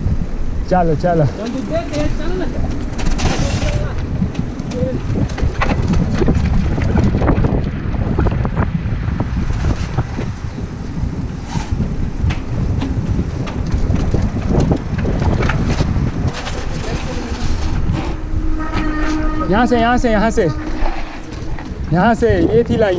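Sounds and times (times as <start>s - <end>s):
bike rattling over bumps: 0.0s - 22.9s
wind buffeting microphone: 0.0s - 22.9s.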